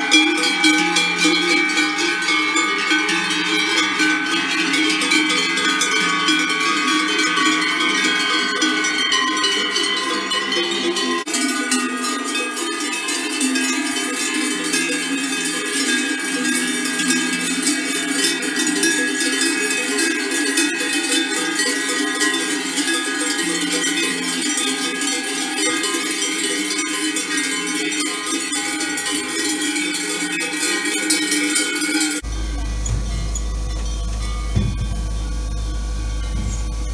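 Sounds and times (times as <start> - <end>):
cowbells clanging: 0.0 - 36.9.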